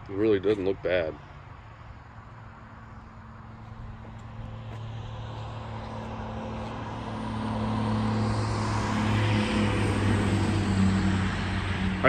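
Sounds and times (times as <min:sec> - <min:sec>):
vehicle engine running: 0:02.2 - 0:12.0.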